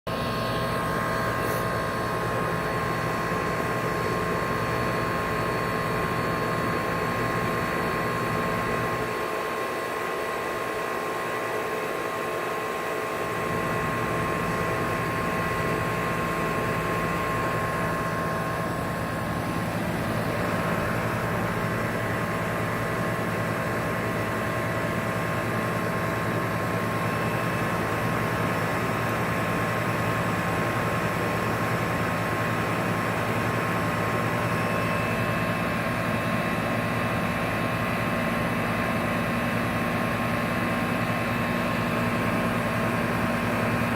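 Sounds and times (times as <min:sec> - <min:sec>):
compressor unit humming: 0:00.1 - 0:43.9.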